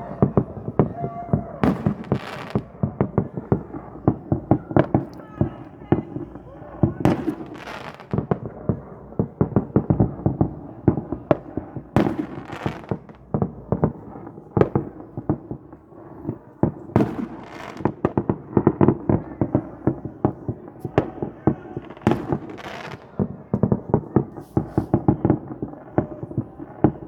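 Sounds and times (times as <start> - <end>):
fireworks bangs and pops: 0.0 - 27.0.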